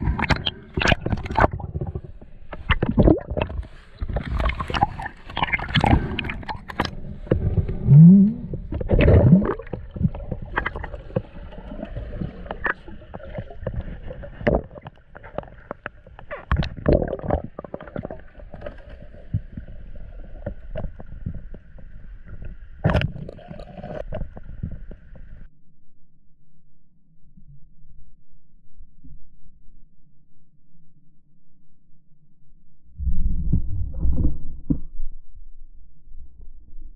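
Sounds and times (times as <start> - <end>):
water gurgling and sloshing: 0.0 - 25.5, 32.8 - 36.9.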